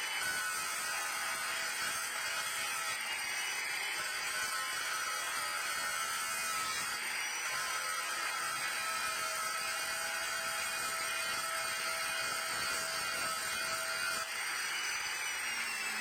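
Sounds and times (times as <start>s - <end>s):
electric power tool whining: 0.0s - 16.0s.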